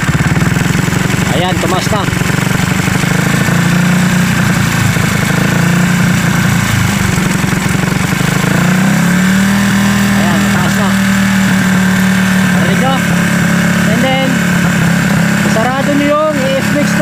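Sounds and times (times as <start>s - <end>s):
motorcycle engine fast idle: 0.0s - 17.0s.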